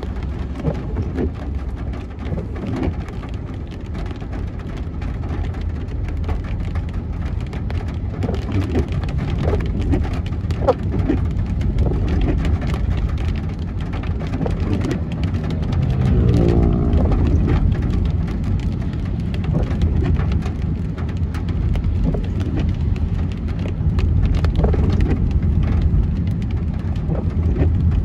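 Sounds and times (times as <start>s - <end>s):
car driving rumble: 0.0s - 28.0s
heavy rain on a car: 0.0s - 28.0s.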